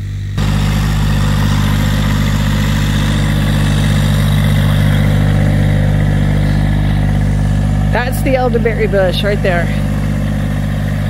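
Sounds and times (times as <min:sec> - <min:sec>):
tractor engine running steadily: 0:00.0 - 0:11.0.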